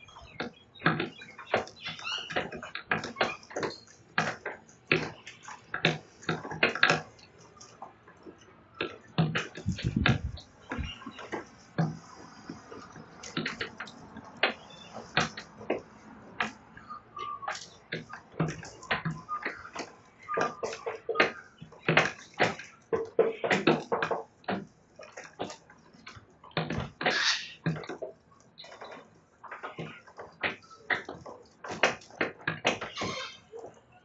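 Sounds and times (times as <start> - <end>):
bird beak chewing wood: 0.0 - 34.0.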